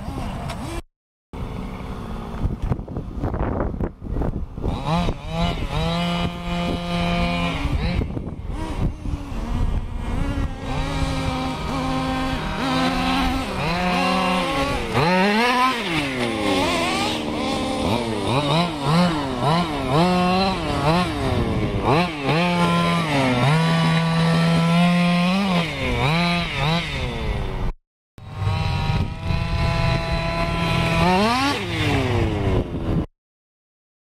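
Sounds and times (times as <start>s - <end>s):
rc car engine revving: 4.6s - 32.9s.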